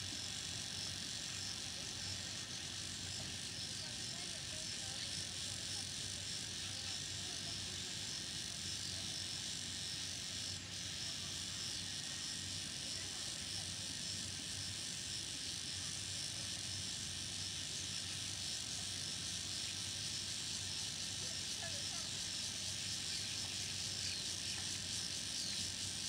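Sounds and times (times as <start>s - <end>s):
cicadas and insects calling: 0.0s - 26.0s.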